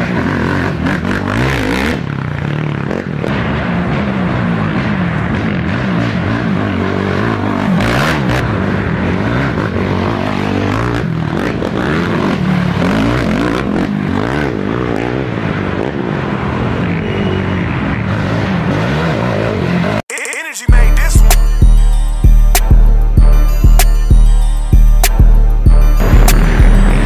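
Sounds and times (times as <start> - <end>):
atv engines revving: 0.0 - 20.0, 20.8 - 27.0.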